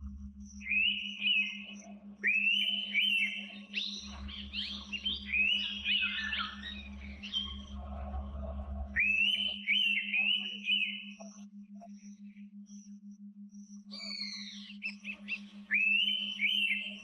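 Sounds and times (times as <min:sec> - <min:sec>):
steady low hum: 0:00.0 - 0:17.0
faint high chirp: 0:00.5 - 0:07.8, 0:08.8 - 0:17.0
birds whistling: 0:00.6 - 0:11.4, 0:13.8 - 0:17.0.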